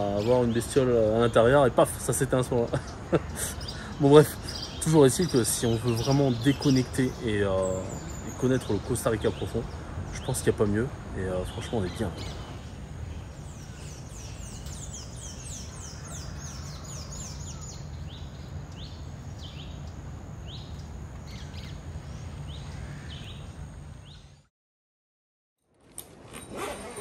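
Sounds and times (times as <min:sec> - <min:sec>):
birds chirping: 0:00.0 - 0:24.5.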